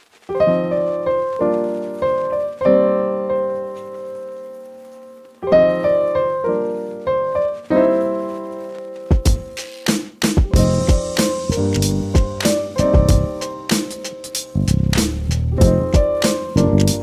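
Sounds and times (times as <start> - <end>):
piano chords: 0.3 - 17.0.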